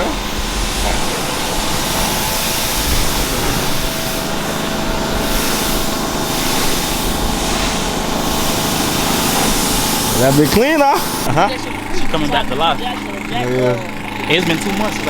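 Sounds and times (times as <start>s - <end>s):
pressure washer spraying water: 0.0s - 15.0s
washer pump humming: 0.0s - 15.0s.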